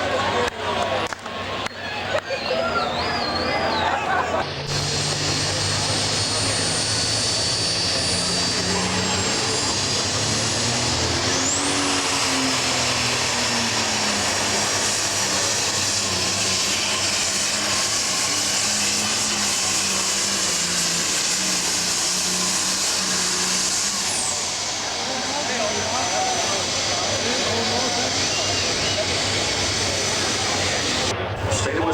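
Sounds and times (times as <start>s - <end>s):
tractor engine running hard: 0.0s - 31.9s
high turbocharger whistle: 1.6s - 31.1s.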